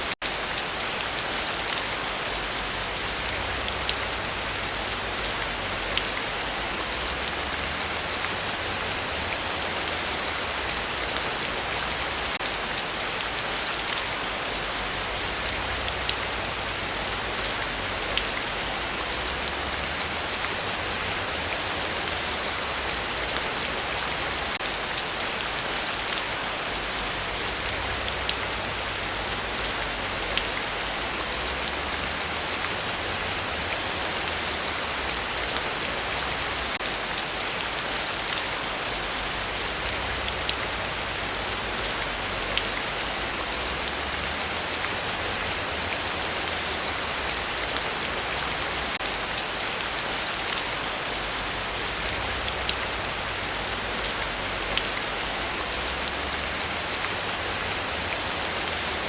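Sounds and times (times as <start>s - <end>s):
heavy rain falling: 0.0s - 59.0s
raindrops ticking on surfaces: 0.0s - 59.0s.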